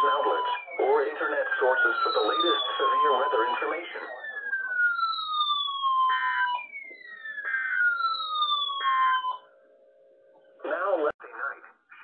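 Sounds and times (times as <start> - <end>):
electronic siren falling sweeps: 0.0 - 9.7.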